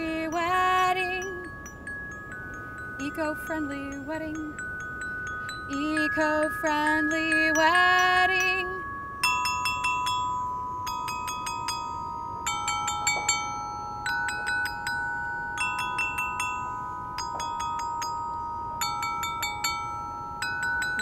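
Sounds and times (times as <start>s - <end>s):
glockenspiel notes: 0.0s - 21.0s.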